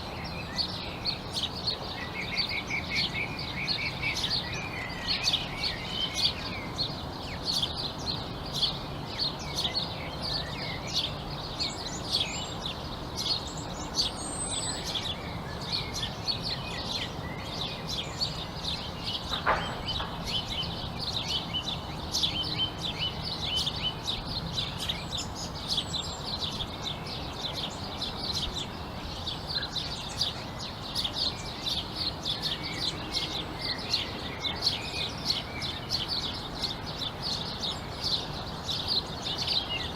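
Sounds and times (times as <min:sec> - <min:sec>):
low steady background noise: 0:00.0 - 0:39.9
small birds chirping: 0:00.0 - 0:39.9.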